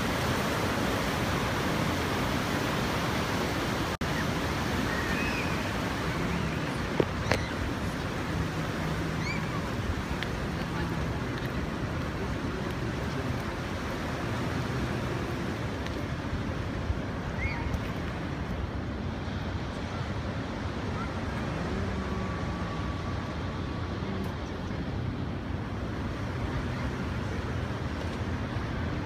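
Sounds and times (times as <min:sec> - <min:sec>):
river water rushing through rapids: 0:00.0 - 0:29.0.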